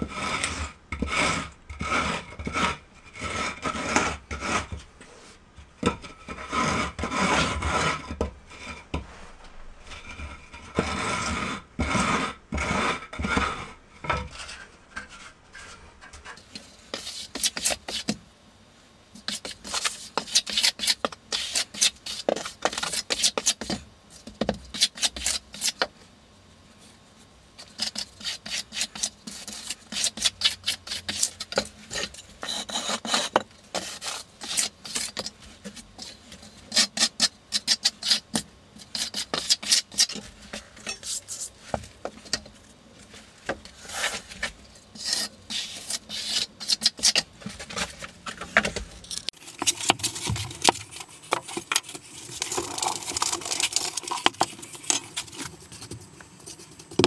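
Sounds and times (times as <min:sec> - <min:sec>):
trowel scraping mortar: 0:00.0 - 0:18.2, 0:19.2 - 0:23.8, 0:24.4 - 0:25.9, 0:27.6 - 0:57.0.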